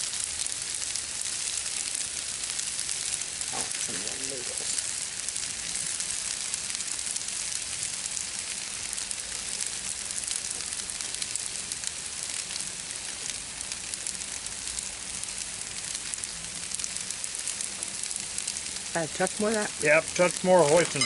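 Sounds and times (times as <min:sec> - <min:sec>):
stir-fry sizzling on a griddle: 0:00.0 - 0:21.0.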